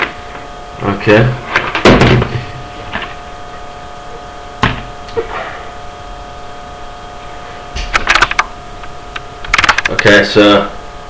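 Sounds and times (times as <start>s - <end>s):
steady multi-pitch hum: 0.0s - 11.0s.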